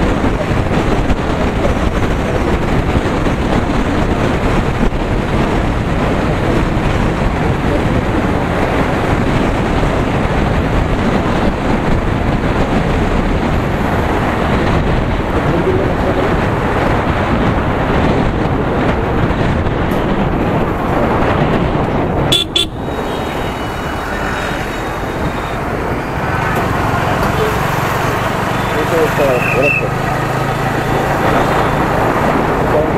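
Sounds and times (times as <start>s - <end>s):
wind and road noise: 0.0s - 32.9s.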